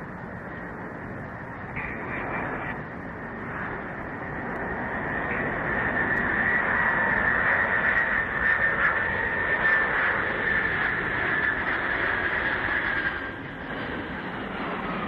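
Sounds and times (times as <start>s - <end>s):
high whine: 0.0s - 15.0s
jet engines roaring: 0.0s - 15.0s.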